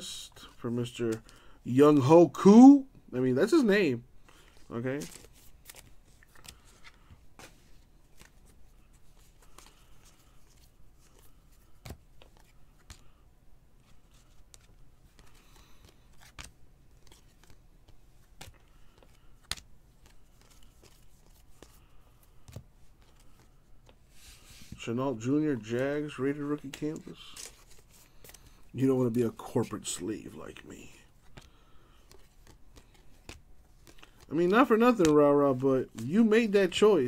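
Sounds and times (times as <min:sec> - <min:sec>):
cards rustling: 0:00.3 - 0:37.0.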